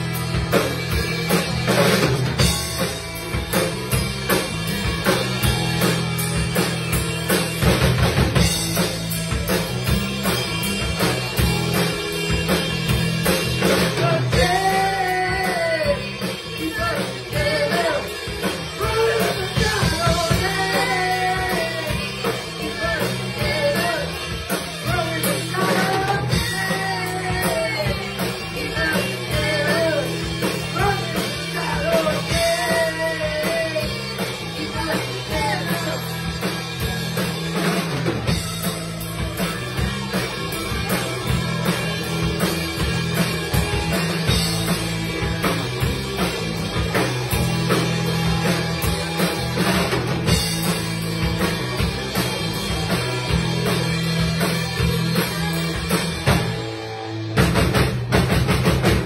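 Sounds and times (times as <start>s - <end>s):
bending lead guitar melody: 0.0s - 59.0s
drum kit: 0.0s - 59.0s
electric guitars: 0.0s - 59.0s.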